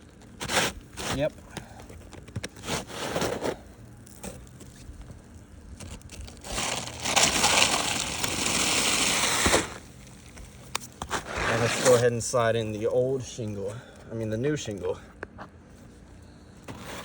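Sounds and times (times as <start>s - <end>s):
roof shingle gritty scraping: 0.0s - 16.0s, 16.6s - 17.0s.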